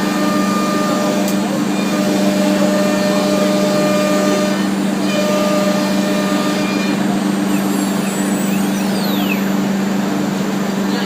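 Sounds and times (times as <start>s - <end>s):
wood router mechanical hum: 0.0s - 11.0s.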